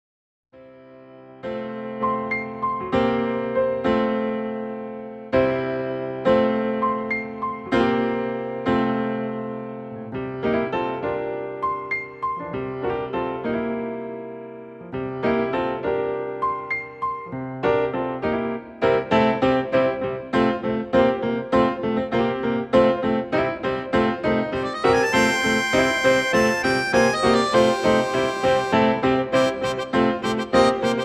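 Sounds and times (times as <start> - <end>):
solo piano playing slow chords: 0.6 - 31.0.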